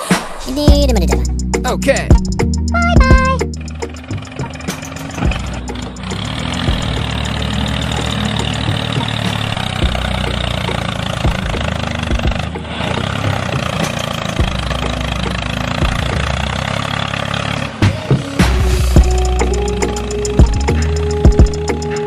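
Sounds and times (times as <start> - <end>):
small engine running: 2.7 - 22.0.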